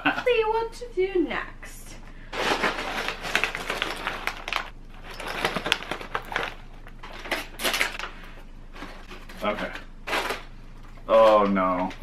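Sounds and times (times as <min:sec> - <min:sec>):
plastic bags crinkling: 0:02.3 - 0:12.0.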